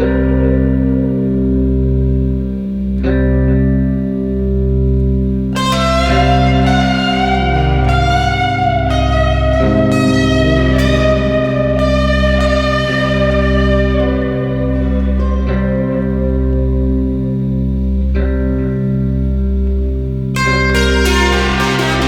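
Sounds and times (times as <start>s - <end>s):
guitar music with bass line: 0.0s - 22.0s
lead guitar melody: 0.0s - 22.0s.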